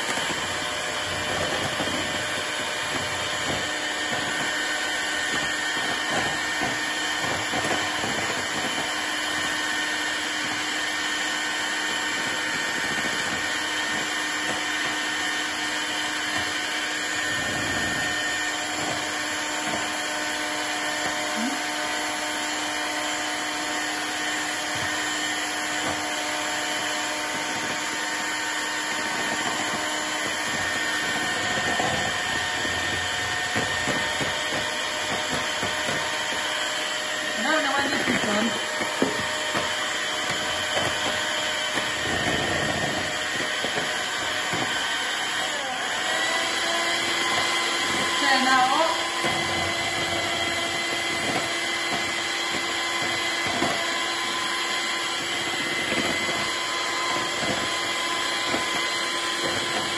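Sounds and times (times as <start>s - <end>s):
electric hand mixer whipping cream: 0.0s - 59.9s.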